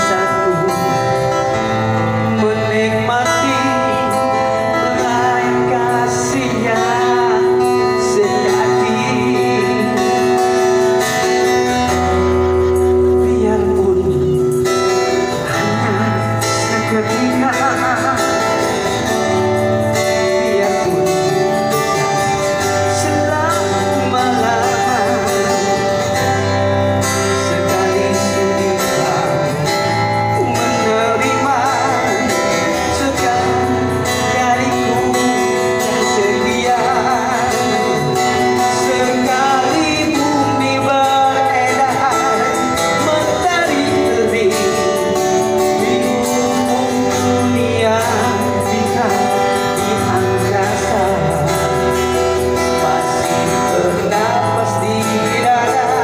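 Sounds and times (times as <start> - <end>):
live band music: 0.0 - 56.0.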